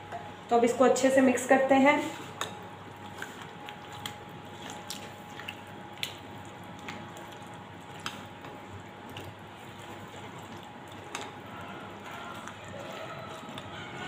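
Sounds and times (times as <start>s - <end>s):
wet squishing of spoon stirring: 2.0s - 14.0s.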